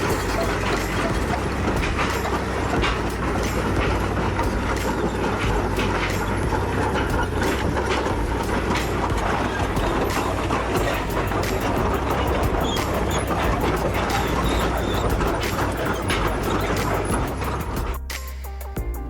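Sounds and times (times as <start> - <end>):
steel tracks clattering: 0.0 - 18.1
diesel engine running: 0.0 - 19.0.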